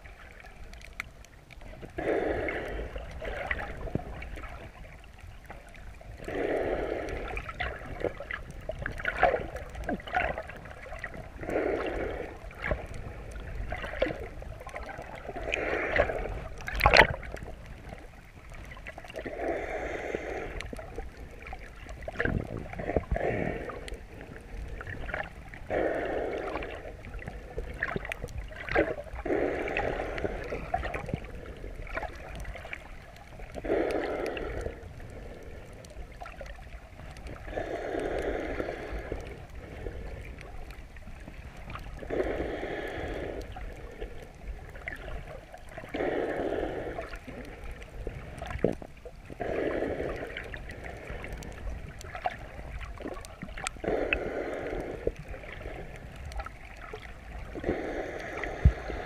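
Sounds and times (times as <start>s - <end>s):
muffled water noise: 0.0s - 59.0s.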